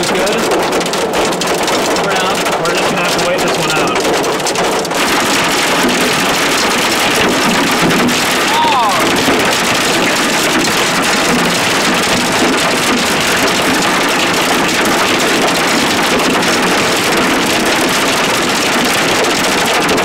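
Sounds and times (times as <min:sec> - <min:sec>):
hail and rain on car roof: 0:00.0 - 0:20.0.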